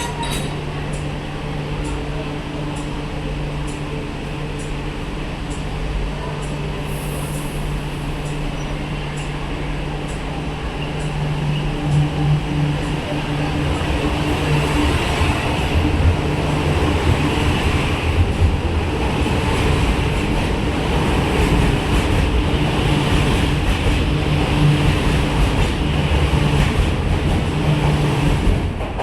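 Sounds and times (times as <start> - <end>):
metro train rumbling: 0.0 - 29.0.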